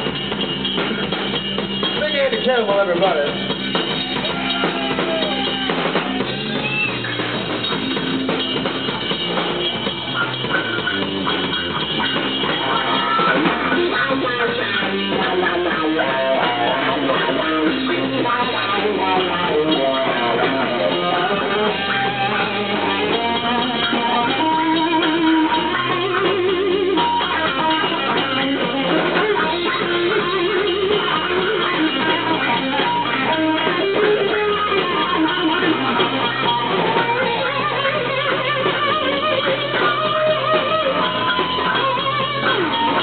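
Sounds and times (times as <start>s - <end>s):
bass guitar: 0.0s - 43.0s
drums: 0.0s - 43.0s
electric guitar riff: 0.0s - 43.0s.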